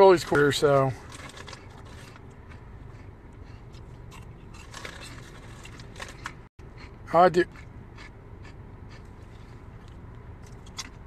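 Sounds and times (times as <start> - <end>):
snack crunching: 1.1 - 11.0.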